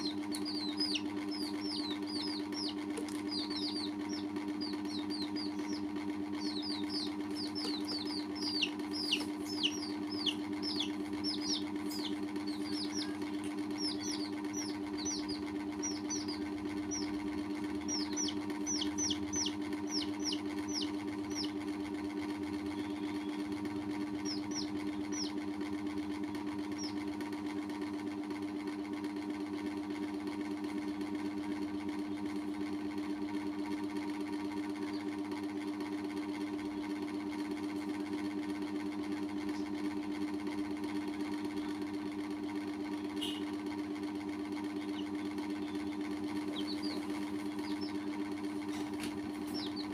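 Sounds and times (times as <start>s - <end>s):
baby chicks peeping: 0.0s - 38.3s, 39.0s - 49.9s
steady mechanical hum: 0.0s - 49.9s.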